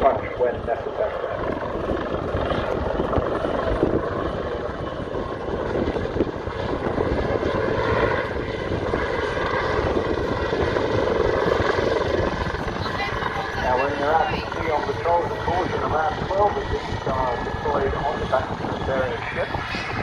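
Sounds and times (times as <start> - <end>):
helicopter engines and rotor: 0.0 - 20.0.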